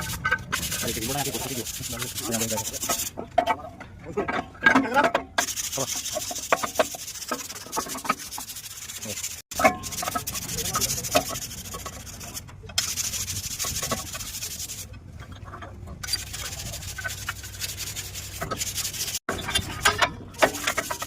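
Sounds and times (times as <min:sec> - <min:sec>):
abrasive scraping and rubbing: 0:00.0 - 0:03.8, 0:05.4 - 0:21.0.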